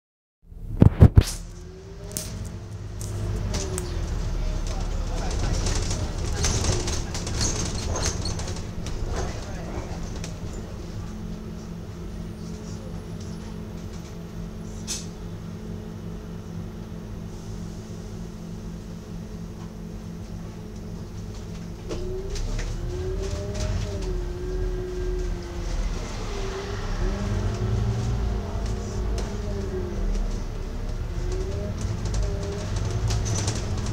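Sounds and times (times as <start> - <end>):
bus engine idling and accelerating: 0.5 - 33.9.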